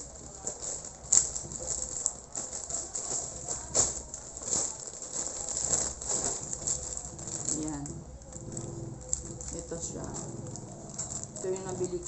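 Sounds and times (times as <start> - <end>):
plastic packaging crinkling: 0.0 - 12.0
sharp plastic crackles: 0.0 - 12.0.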